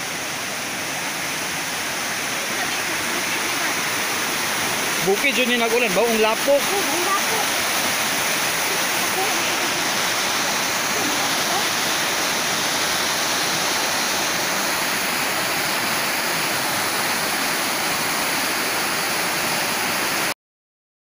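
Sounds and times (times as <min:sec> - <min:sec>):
flood water rushing: 0:00.0 - 0:20.4.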